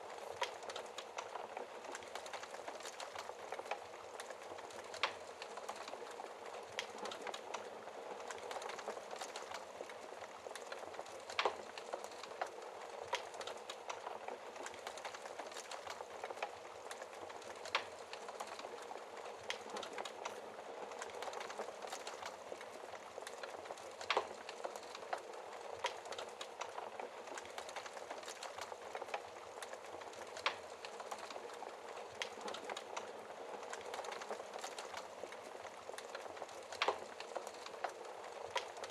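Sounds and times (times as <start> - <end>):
logs burning in fireplace: 0.0 - 38.9.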